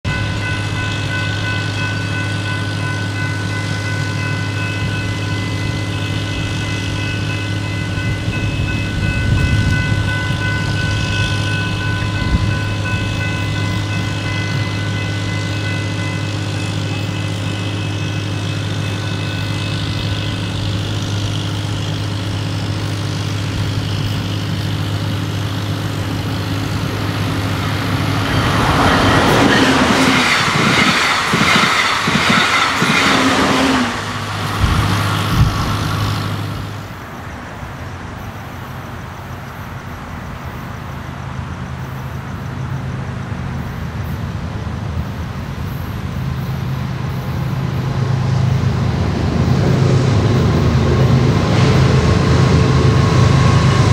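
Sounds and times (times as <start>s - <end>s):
approaching train rumble: 0.0s - 53.9s
crossing warning bells ringing: 0.0s - 53.9s.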